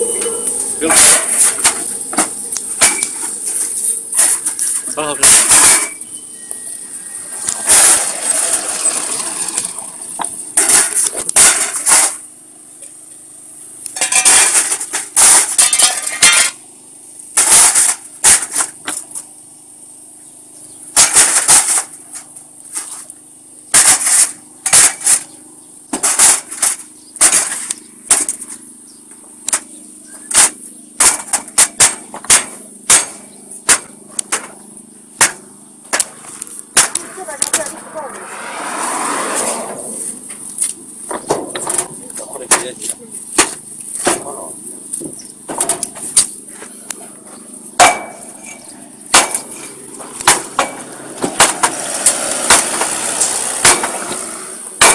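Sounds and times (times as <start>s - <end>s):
low machine hum: 0.0s - 51.6s.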